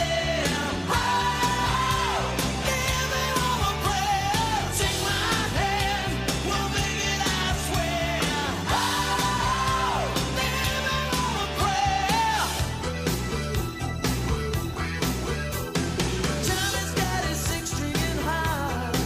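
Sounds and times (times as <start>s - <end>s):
pop-rock song with singer: 0.0s - 19.0s.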